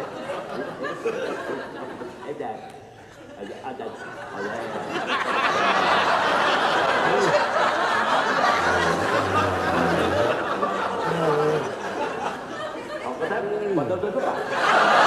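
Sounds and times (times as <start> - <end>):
audience laughing: 0.0 - 2.2, 3.5 - 15.0.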